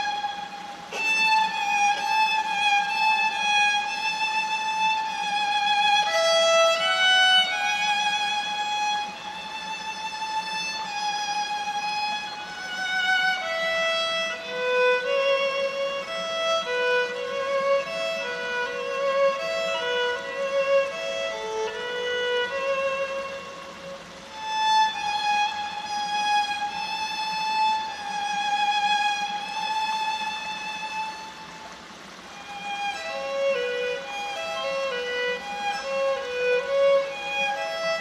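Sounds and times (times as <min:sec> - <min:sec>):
solo violin melody: 0:00.0 - 0:38.0.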